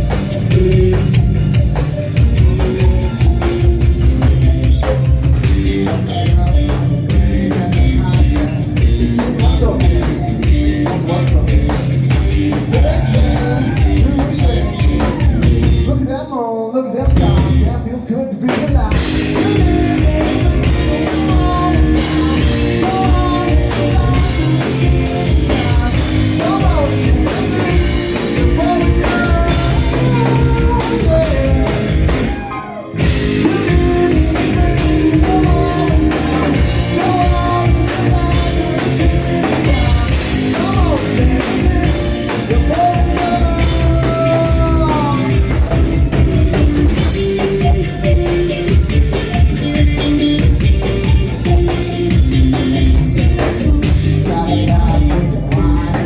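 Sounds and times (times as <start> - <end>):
live rock band playing: 0.0 - 56.0
person singing: 0.0 - 56.0.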